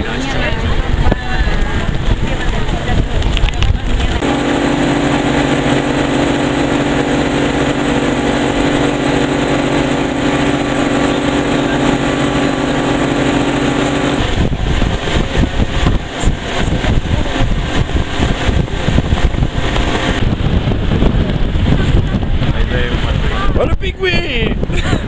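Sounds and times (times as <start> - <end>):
boat engine humming: 0.0 - 23.6
wind gusting against microphone: 0.0 - 25.0.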